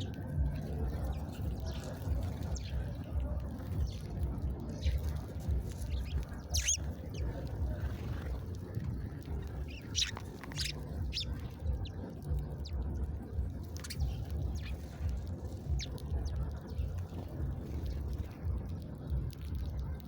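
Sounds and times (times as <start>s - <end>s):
songbirds chirping: 0.0s - 20.0s
steady low rumble: 0.0s - 20.0s.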